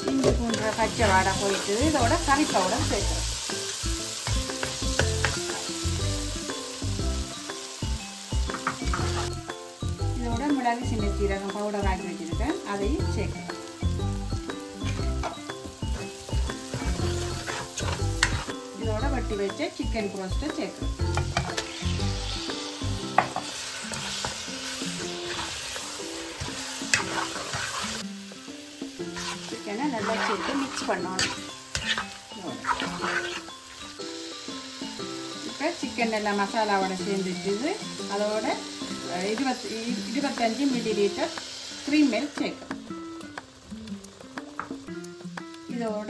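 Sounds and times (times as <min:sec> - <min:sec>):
light background music: 0:00.0 - 0:46.0
masala sizzling in a pan: 0:00.0 - 0:46.0.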